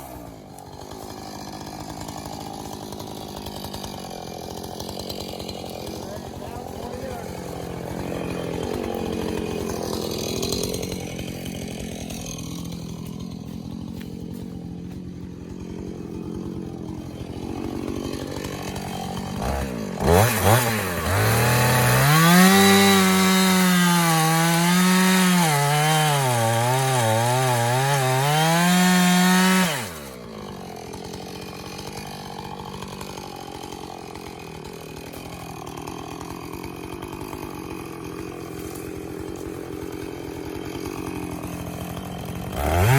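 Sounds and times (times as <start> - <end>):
chainsaw idling and cutting log: 0.0 - 42.9.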